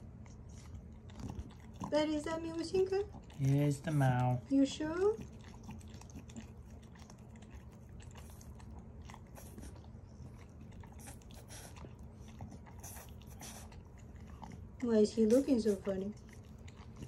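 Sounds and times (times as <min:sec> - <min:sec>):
dog chewing: 0:00.0 - 0:17.0.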